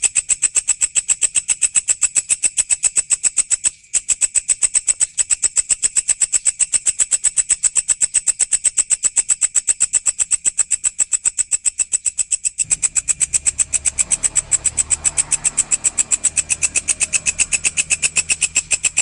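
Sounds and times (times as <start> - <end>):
grasshopper stridulating: 0.0 - 19.0.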